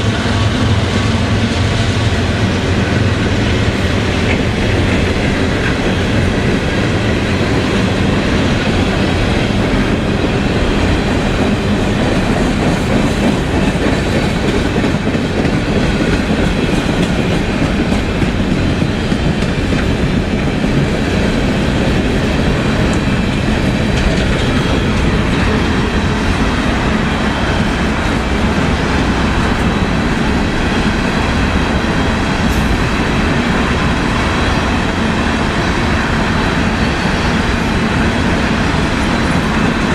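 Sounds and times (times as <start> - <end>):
clickety-clack of wheels on track: 0.0 - 39.9
train rolling on rails: 0.0 - 39.9.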